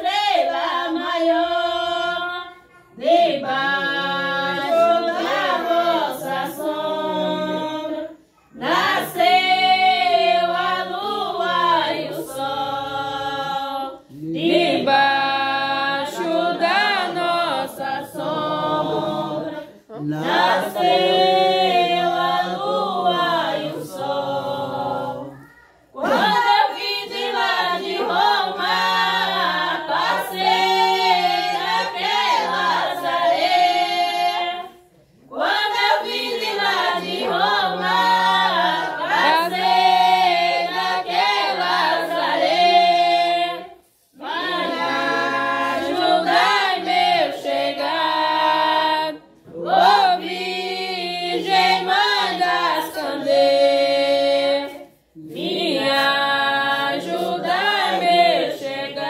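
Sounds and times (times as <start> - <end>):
women singing a hymn: 0.0 - 59.0.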